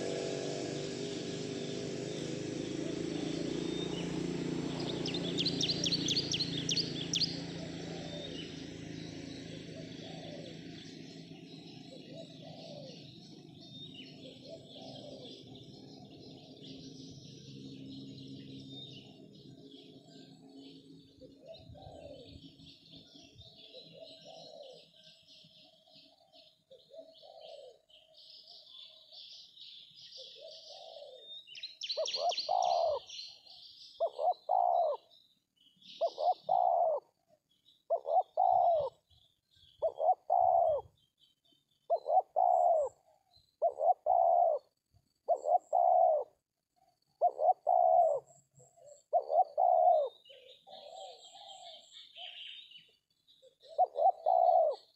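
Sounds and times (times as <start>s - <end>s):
dove cooing: 0.0s - 28.2s, 30.1s - 35.1s, 36.0s - 37.3s, 37.9s - 41.0s, 41.9s - 54.9s
small birds chirping: 0.0s - 54.9s.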